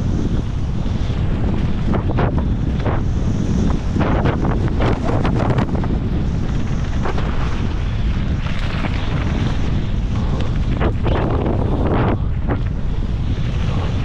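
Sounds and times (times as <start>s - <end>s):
dirt bike engine running hard: 0.0s - 14.0s
wind noise on microphone: 0.0s - 14.0s.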